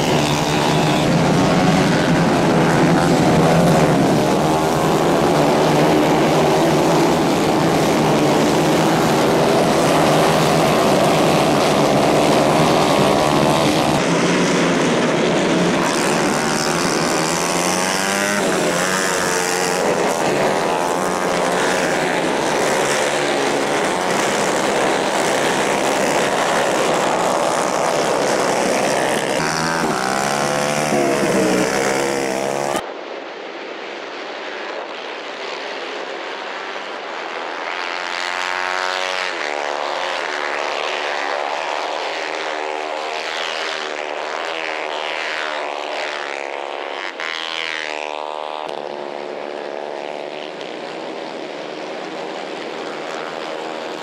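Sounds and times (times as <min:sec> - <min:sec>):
racing kart engines: 0:00.0 - 0:33.0, 0:34.8 - 0:54.0.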